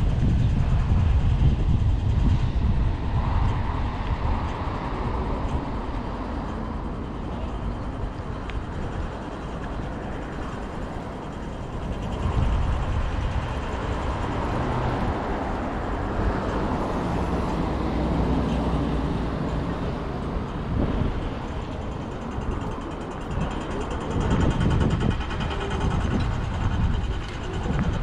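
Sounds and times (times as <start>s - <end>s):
motor vehicle passing: 1.4s - 28.0s.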